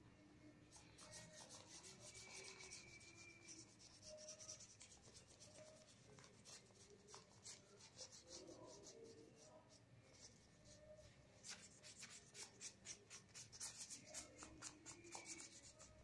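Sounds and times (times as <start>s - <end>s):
paintbrush rubbing on paper: 0.7s - 16.0s.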